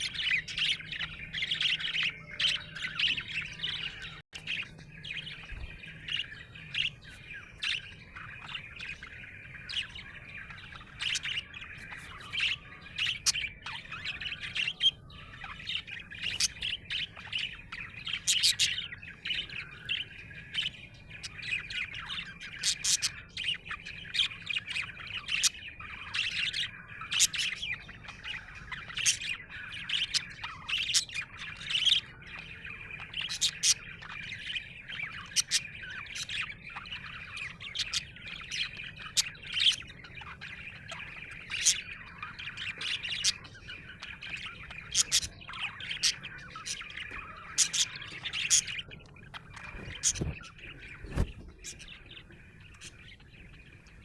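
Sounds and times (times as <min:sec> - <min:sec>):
budgerigar chirping: 0:00.0 - 0:54.0.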